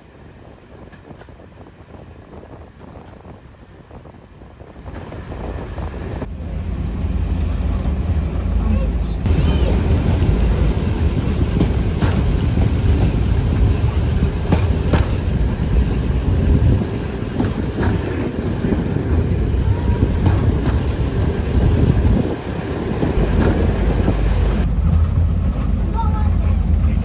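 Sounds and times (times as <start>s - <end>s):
rushing air: 0.0s - 8.6s, 9.2s - 25.9s
train wheels rumbling on rail: 0.0s - 27.0s.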